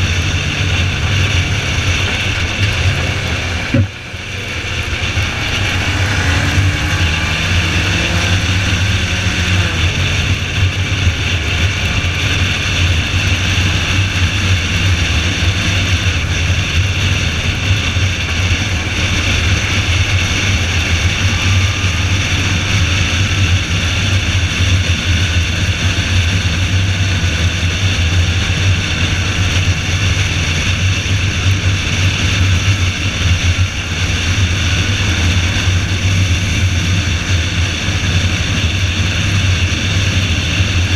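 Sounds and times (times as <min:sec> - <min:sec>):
car engine drone: 0:00.0 - 0:40.9
wet road noise: 0:00.0 - 0:40.9.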